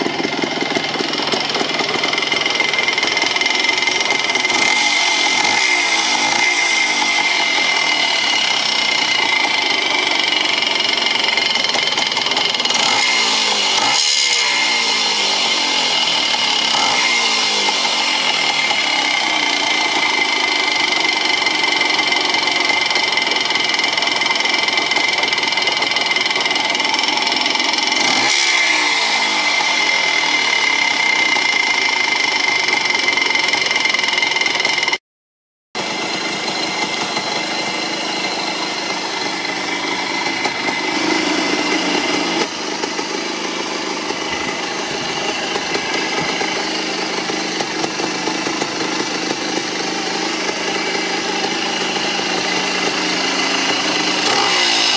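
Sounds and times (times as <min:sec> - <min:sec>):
motorcycle engine running: 0:00.0 - 0:35.0, 0:35.8 - 0:54.9.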